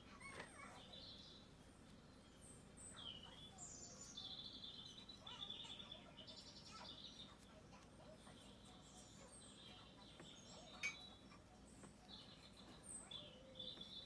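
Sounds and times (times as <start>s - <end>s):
faint birdsong chirps and trills: 0.0s - 14.0s.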